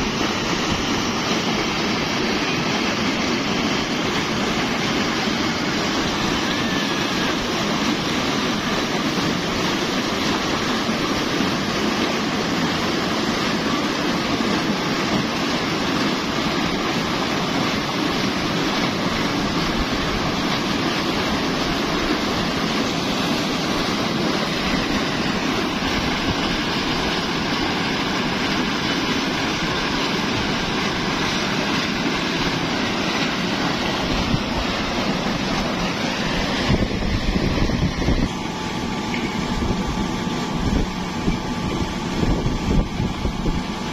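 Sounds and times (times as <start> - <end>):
pump motor running: 0.0 - 43.9
water gushing into tank: 0.0 - 43.9.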